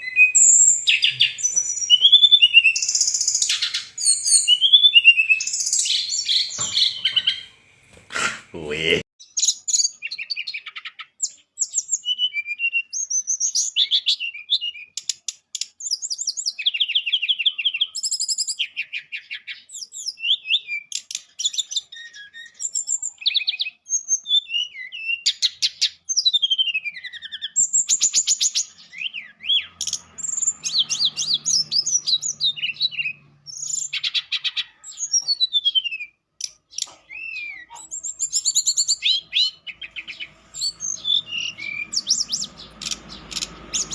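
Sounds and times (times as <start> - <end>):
bird singing trills and chirps: 0.0 - 7.6, 8.6 - 43.9.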